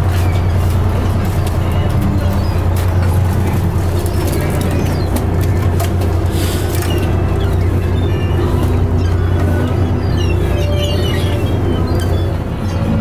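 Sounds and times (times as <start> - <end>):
background music: 0.0 - 13.0
boat engine humming: 0.0 - 13.0.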